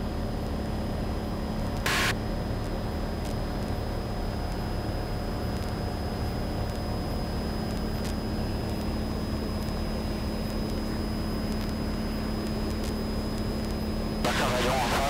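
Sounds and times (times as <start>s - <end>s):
airplane engine droning: 0.0s - 15.0s.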